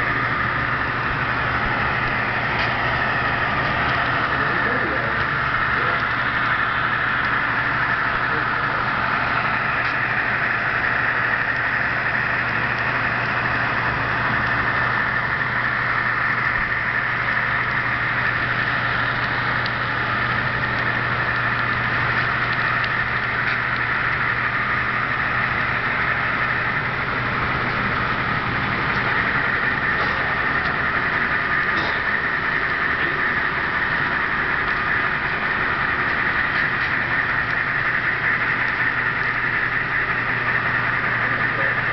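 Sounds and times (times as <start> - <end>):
model locomotive drone: 0.0 - 41.9.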